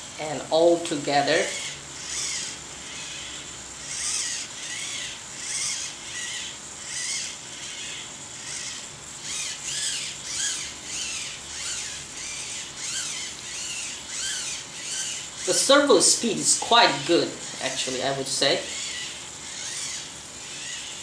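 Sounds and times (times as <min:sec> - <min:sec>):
gimbal servos whining: 0:00.0 - 0:21.0.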